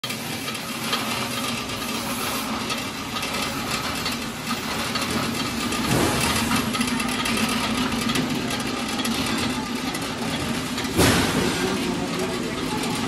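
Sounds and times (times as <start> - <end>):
oil press machine humming: 0.0 - 13.0.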